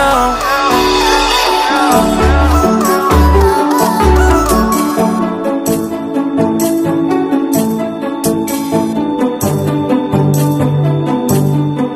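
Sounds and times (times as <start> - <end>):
instrumental pop music: 0.0 - 11.9.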